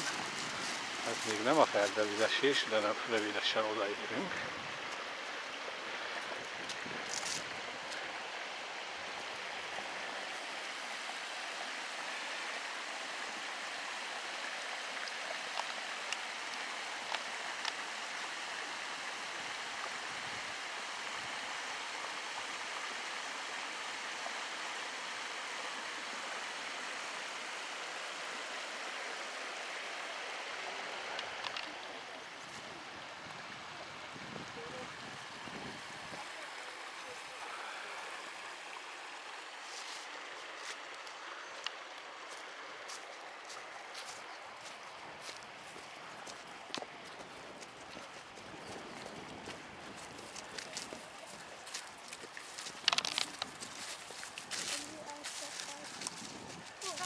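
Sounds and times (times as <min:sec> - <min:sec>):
stream running over stones: 0:00.0 - 0:57.0.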